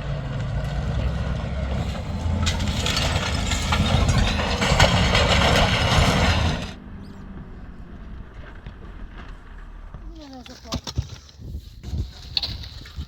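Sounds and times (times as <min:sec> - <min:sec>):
vehicle engine running: 0:00.0 - 0:10.6.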